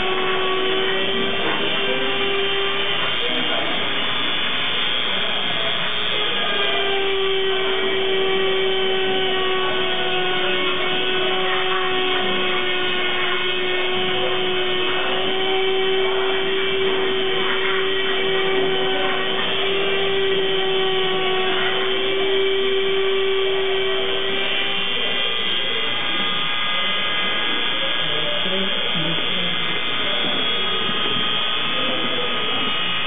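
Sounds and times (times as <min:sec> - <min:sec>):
rotary tool routing wood: 0:00.0 - 0:33.0.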